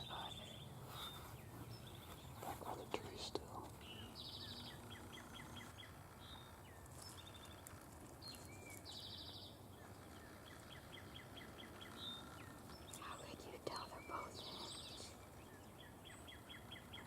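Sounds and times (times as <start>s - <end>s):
low steady background hiss: 0.0s - 17.0s
songbirds singing: 0.0s - 17.0s.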